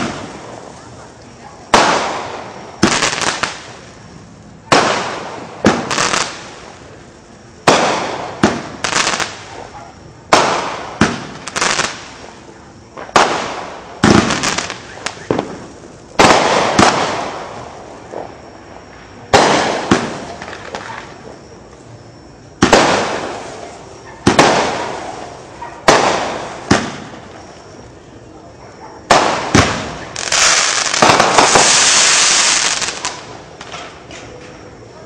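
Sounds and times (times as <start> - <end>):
fireworks bangs with echo: 0.0 - 3.8, 4.6 - 6.8, 7.6 - 18.4, 19.2 - 21.2, 22.6 - 27.6, 29.0 - 34.3.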